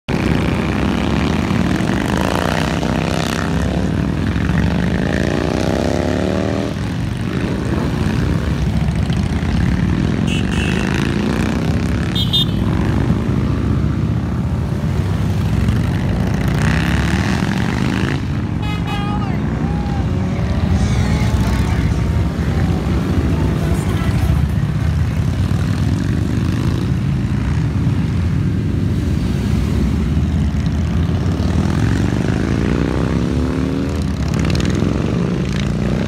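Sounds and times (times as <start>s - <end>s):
motorcycles riding past: 0.1s - 36.0s.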